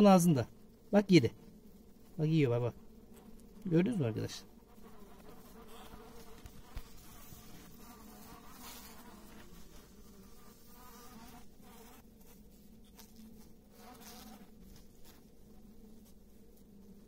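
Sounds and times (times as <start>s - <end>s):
bees humming: 0.0s - 17.0s.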